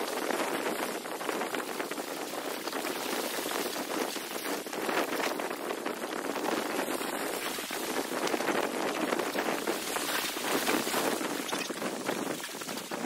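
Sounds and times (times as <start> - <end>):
small waves lapping and splashing: 0.0 - 13.0.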